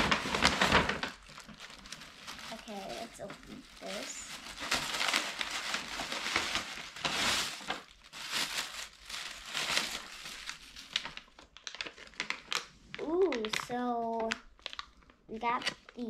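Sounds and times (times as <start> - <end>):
tissue paper crinkling: 0.0 - 16.0.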